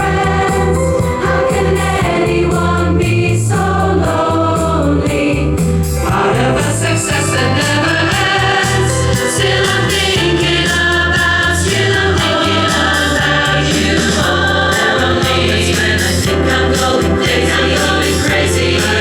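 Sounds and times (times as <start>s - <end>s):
bass line: 0.0s - 19.0s
choir singing: 0.0s - 19.0s.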